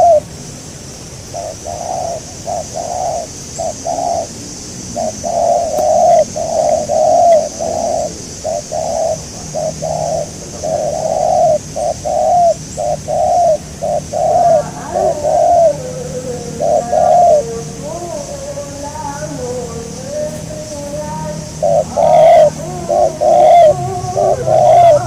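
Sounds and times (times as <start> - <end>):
dove cooing: 0.0 - 0.3, 1.3 - 25.0
steady high hiss: 0.0 - 25.0.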